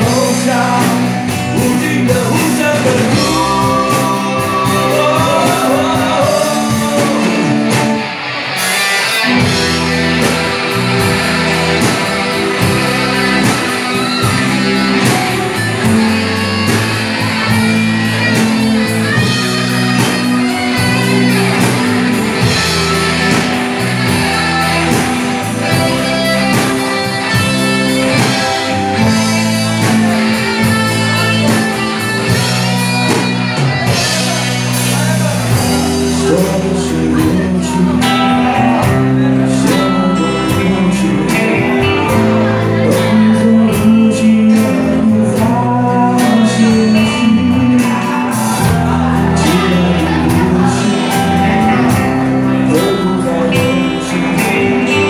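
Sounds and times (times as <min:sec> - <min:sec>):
electric guitar: 0:00.0 - 0:55.0
live rock band playing: 0:00.0 - 0:55.0.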